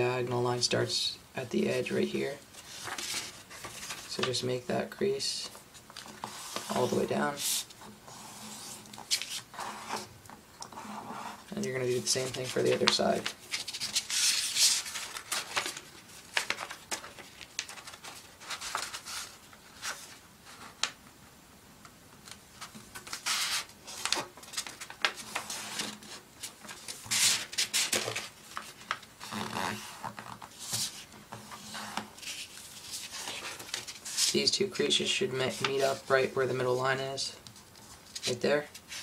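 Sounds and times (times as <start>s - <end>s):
paper rustling and crinkling: 2.5s - 4.4s, 5.4s - 21.0s, 22.2s - 36.5s, 37.4s - 39.0s.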